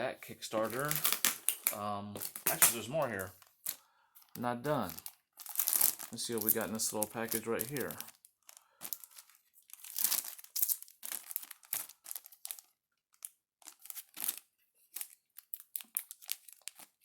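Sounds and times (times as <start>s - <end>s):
packaging crinkling and tearing: 0.4s - 17.0s.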